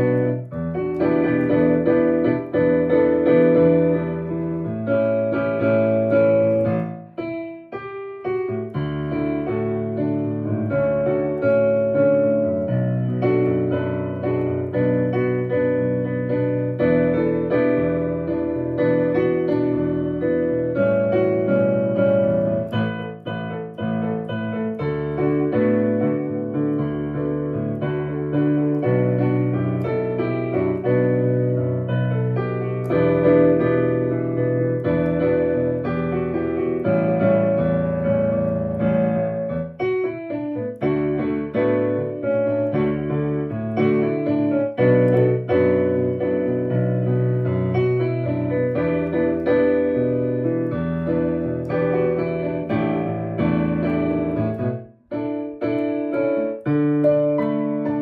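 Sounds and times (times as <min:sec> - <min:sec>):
solo piano pop song: 0:00.0 - 0:58.0.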